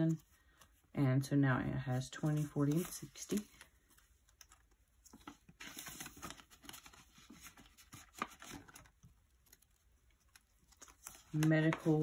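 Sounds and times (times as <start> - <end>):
paper and plastic pages rustling: 2.2 - 12.0.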